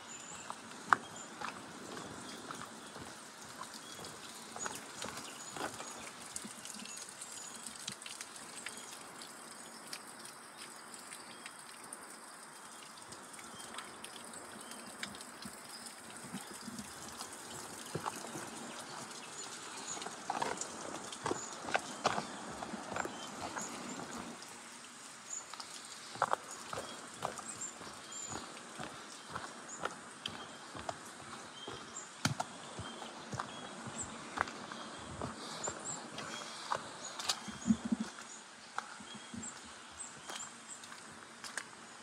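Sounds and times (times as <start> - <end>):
footsteps on forest trail: 0.0 - 8.1, 15.1 - 24.7, 25.4 - 41.8
outdoor background: 0.0 - 42.0.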